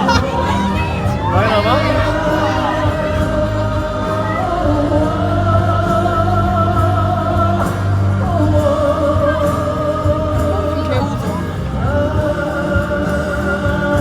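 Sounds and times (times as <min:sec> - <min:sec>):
band accompaniment with bass: 0:00.0 - 0:14.0.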